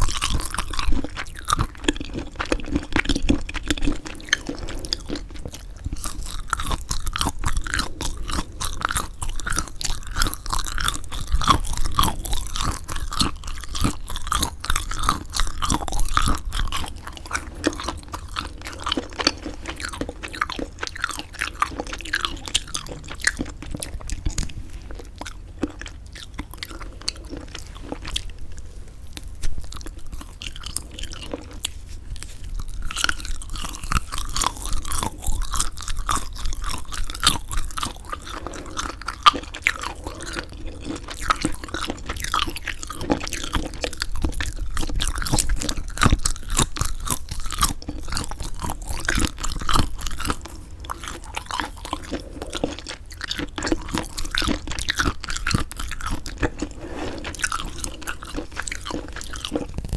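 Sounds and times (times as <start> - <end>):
moist chewing and biting: 0.0 - 59.9.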